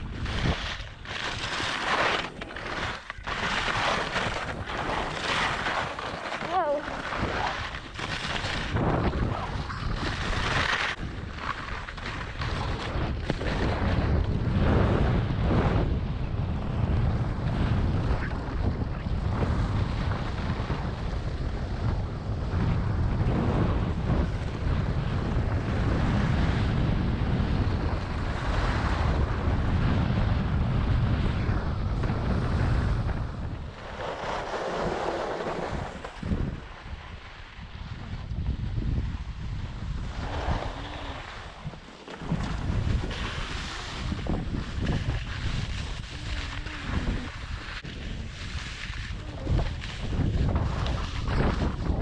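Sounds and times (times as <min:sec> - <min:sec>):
skis scraping over snow: 0:00.0 - 0:15.9, 0:16.7 - 0:52.0
wind rushing over microphone: 0:00.0 - 0:52.0.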